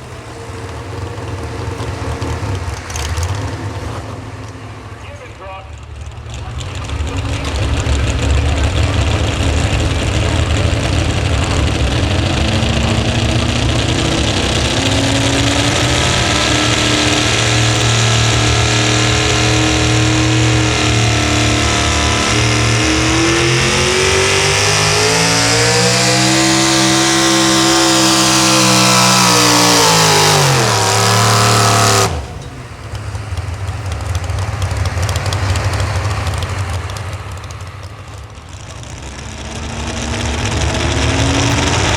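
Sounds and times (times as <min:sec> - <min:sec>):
quieter engine: 0:00.0 - 0:41.9
truck engine at full throttle: 0:00.0 - 0:41.9.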